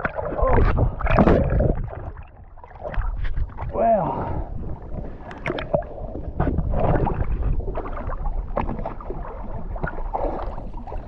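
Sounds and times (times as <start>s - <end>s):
sea water sloshing and splashing: 0.0s - 11.0s.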